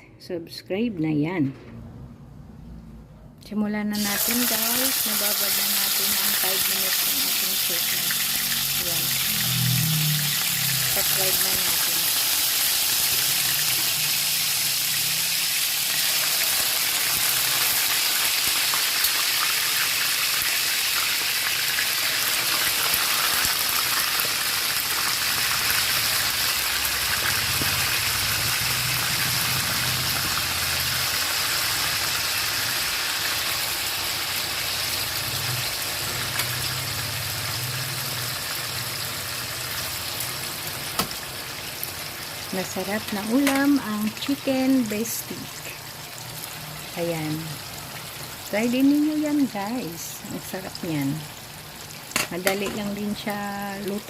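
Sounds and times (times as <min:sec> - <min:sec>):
chicken sizzling in oil: 0:04.0 - 0:54.0.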